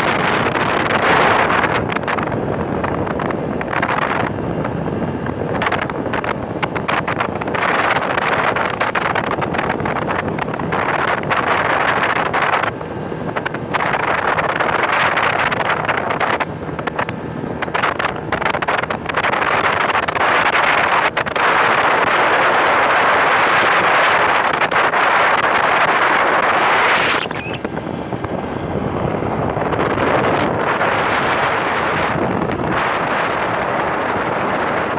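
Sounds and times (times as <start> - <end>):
boat motor and hull rushing: 0.0 - 34.9
wind buffeting microphone: 0.0 - 34.9.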